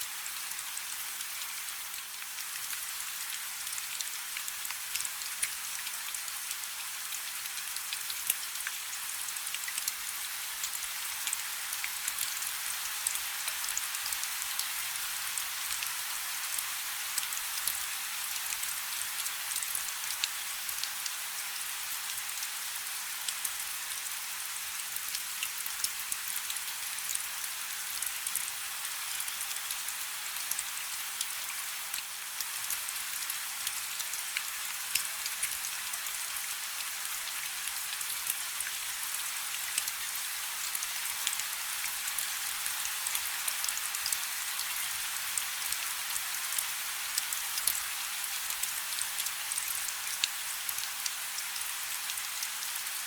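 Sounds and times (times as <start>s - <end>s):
light rain: 0.0s - 53.0s.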